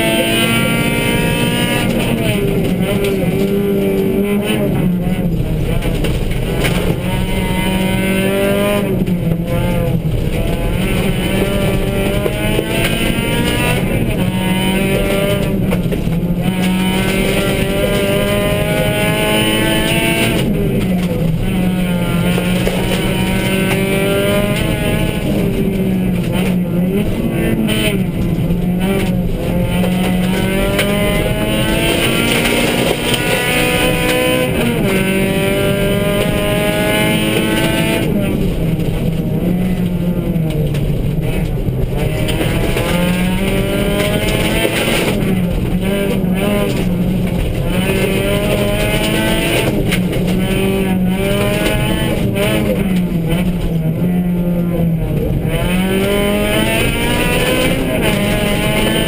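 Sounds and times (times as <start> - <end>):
car engine revving through gears: 0.0 - 59.0.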